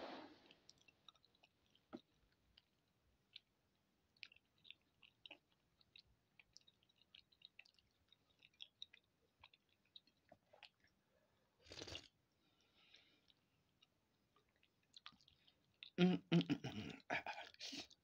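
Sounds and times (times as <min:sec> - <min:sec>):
person chewing with mouth clicks: 0:00.6 - 0:03.5, 0:04.1 - 0:10.9, 0:12.9 - 0:18.0.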